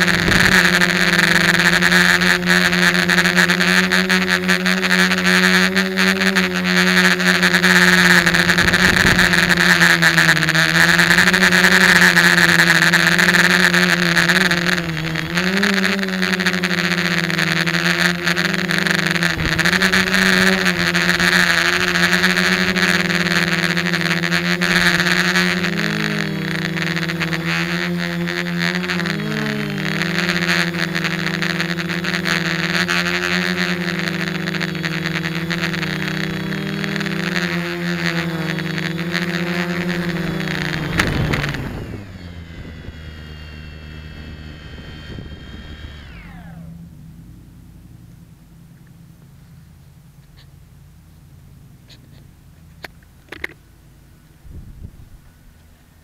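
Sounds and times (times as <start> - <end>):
quadcopter motors buzzing: 0.0 - 47.9.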